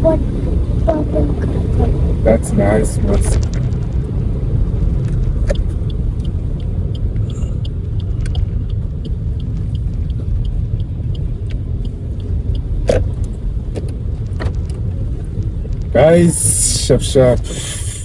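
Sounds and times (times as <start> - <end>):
road and engine rumble: 0.0 - 18.0
faint regular ticking: 0.1 - 17.8.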